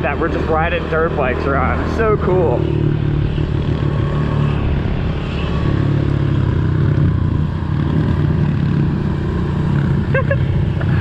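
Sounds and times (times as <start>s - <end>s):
pit bike engines running: 0.0s - 11.0s.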